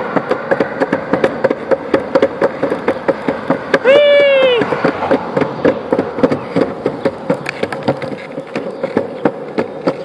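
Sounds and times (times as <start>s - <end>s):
clicks and clacks: 0.0s - 10.0s
skateboard wheels rolling on pavement: 0.0s - 10.0s.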